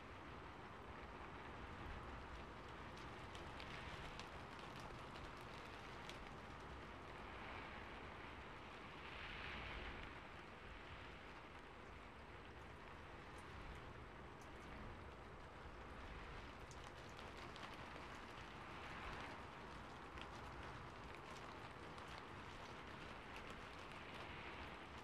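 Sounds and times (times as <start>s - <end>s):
soft rain-like hiss: 0.0s - 25.0s
faint ticks: 1.8s - 10.2s, 11.0s - 25.0s.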